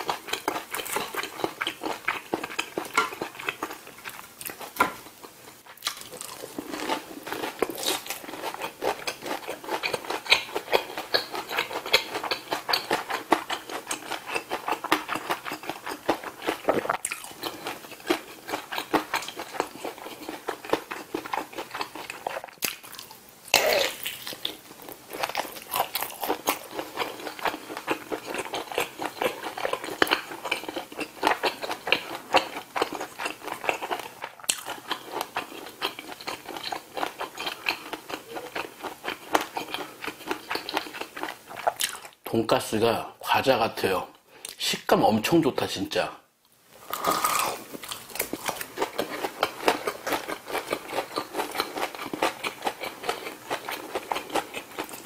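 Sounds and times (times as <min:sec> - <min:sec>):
person chewing crunchy food: 0:00.0 - 0:42.2, 0:46.8 - 0:55.0.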